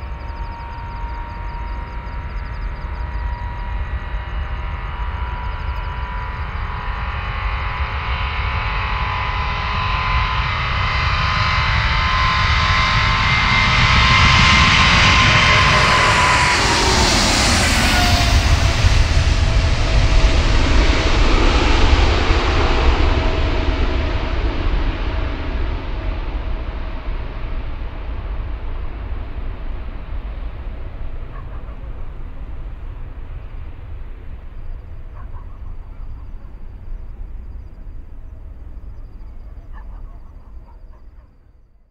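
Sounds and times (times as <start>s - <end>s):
jet airliner passing: 0.0s - 41.5s
jet engine whine: 0.0s - 41.9s.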